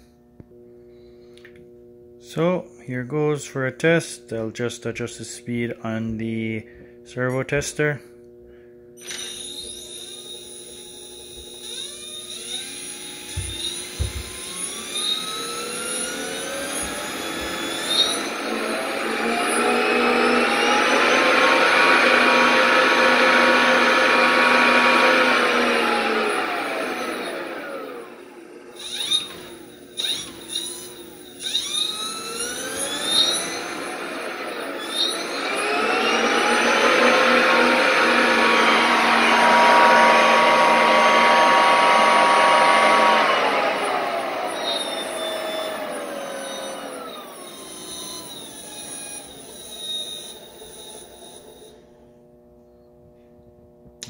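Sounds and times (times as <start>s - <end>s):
electric motor whining: 8.2s - 51.8s.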